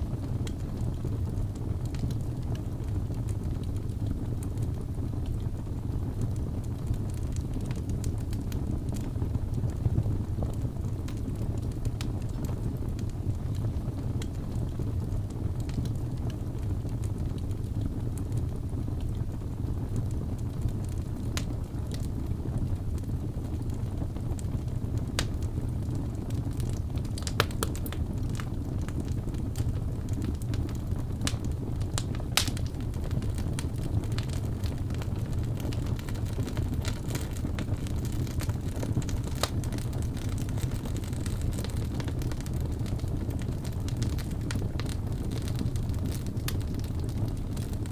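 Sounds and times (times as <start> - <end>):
fire crackling and popping: 0.0 - 47.9
wood fire rumbling: 0.0 - 47.9.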